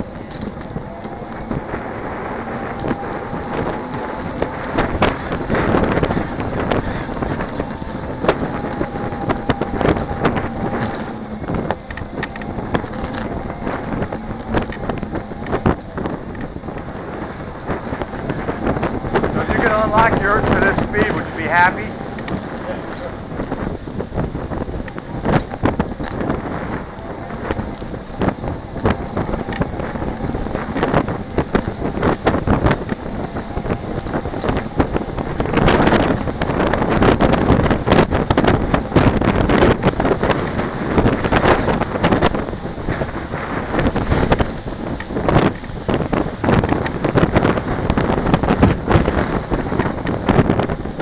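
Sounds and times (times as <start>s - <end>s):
thin high whine: 0.0s - 51.0s
wind buffeting microphone: 0.0s - 51.0s.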